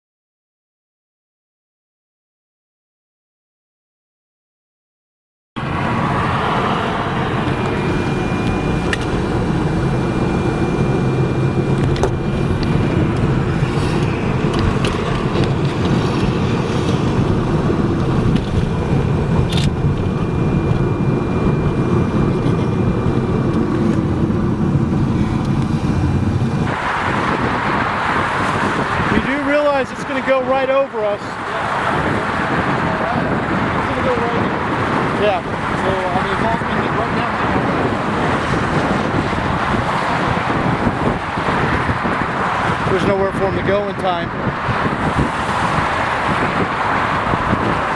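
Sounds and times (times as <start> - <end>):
car cabin engine and road rumble: 5.6 - 47.9.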